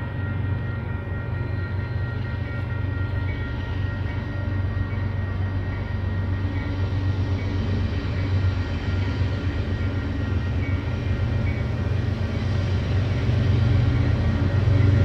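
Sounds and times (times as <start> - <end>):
faint high whine: 0.0 - 15.0
freight train rumbling past: 0.0 - 15.0.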